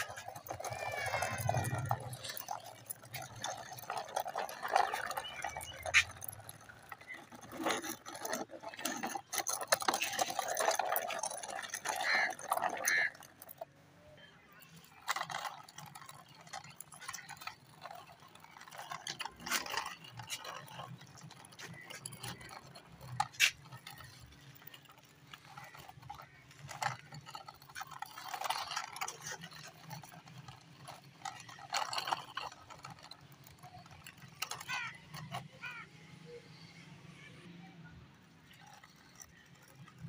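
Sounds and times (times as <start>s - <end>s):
plastic toy clattering on concrete: 0.0s - 13.8s, 14.4s - 40.0s.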